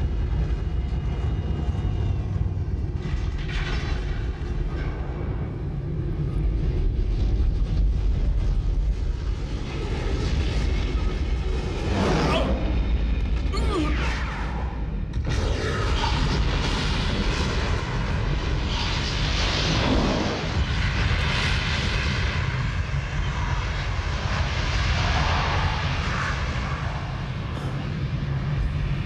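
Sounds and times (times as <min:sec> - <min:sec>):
loud low rumble: 0:00.0 - 0:29.0.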